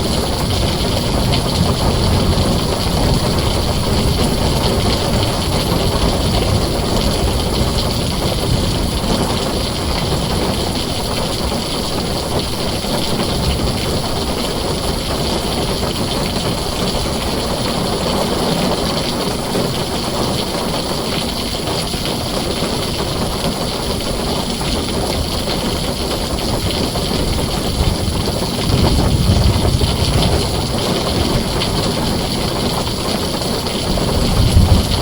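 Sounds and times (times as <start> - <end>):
heavy rain on a tin roof: 0.0 - 35.0.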